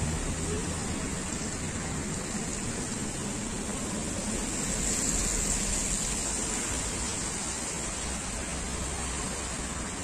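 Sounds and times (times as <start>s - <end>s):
tyres hissing on wet road: 0.0s - 10.0s.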